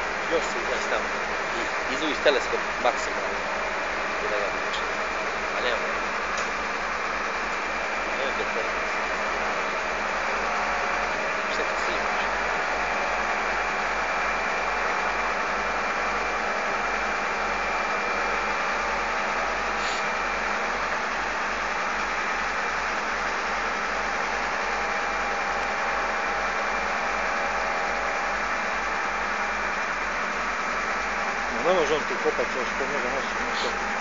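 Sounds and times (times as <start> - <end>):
heavy diesel engines running: 0.0 - 34.0.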